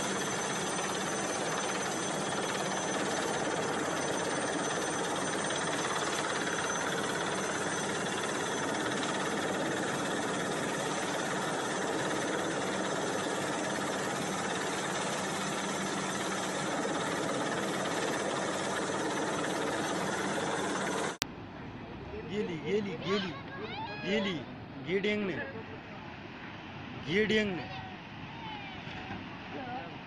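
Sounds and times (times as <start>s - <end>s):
helicopter hovering overhead: 0.0s - 21.2s, 22.3s - 25.4s.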